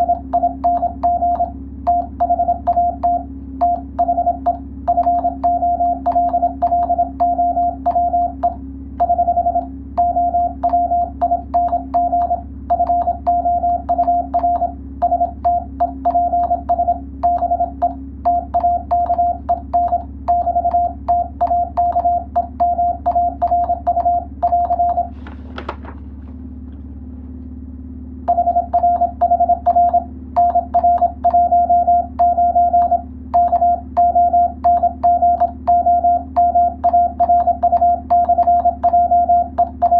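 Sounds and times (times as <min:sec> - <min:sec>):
morse code tone: 0:00.0 - 0:25.4, 0:28.3 - 0:39.9
keying clicks: 0:00.0 - 0:25.8, 0:28.3 - 0:39.9.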